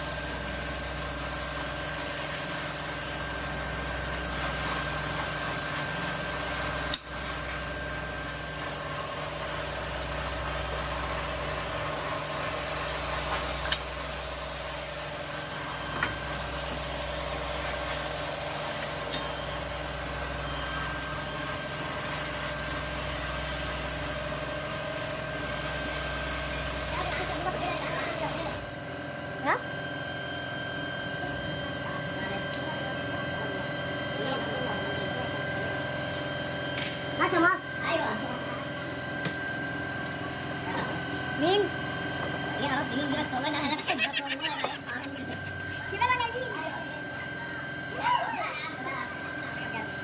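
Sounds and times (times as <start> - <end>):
machinery humming: 0.0 - 50.0.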